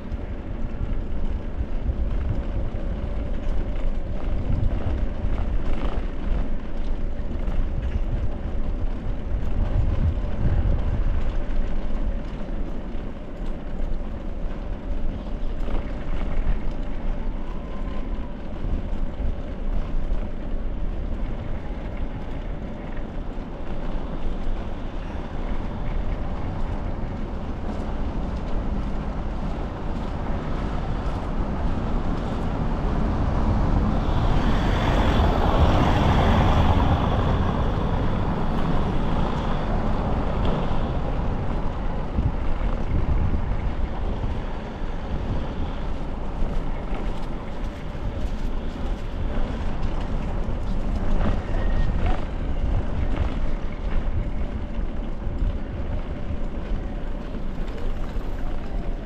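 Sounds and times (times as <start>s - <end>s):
bicycle tyres rumbling on bricks: 0.0s - 59.0s.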